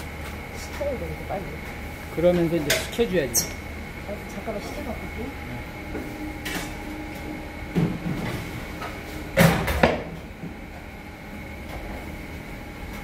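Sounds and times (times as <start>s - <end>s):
kitchen machine hum: 0.0s - 13.0s.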